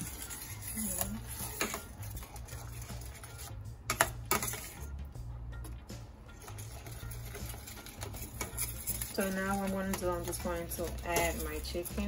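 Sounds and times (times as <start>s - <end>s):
metal spoon stirring in skillet: 0.0s - 5.0s, 6.3s - 12.0s
background music with bass: 0.0s - 12.0s.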